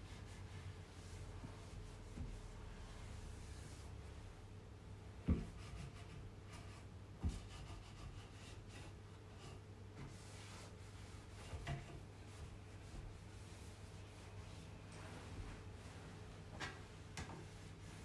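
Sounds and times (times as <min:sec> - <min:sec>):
cloth rubbing on wood: 0:00.1 - 0:04.4, 0:05.3 - 0:18.0.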